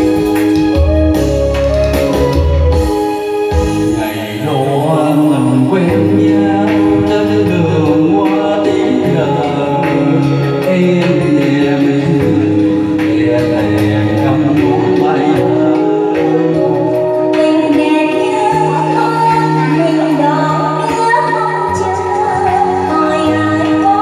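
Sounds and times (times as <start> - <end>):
electronic keyboard music: 0.0 - 24.0
man singing into a microphone: 3.9 - 24.0.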